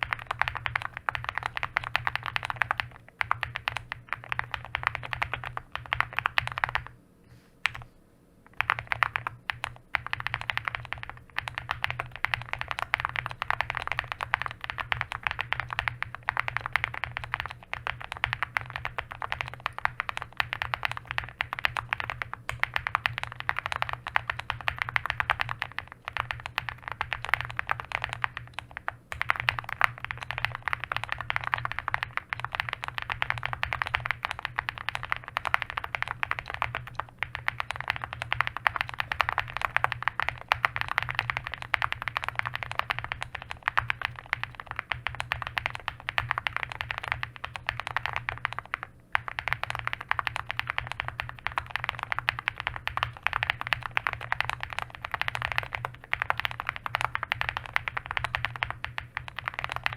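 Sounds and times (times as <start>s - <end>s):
fast mechanical keyboard typing: 0.0s - 7.0s, 7.6s - 7.9s, 8.5s - 59.9s.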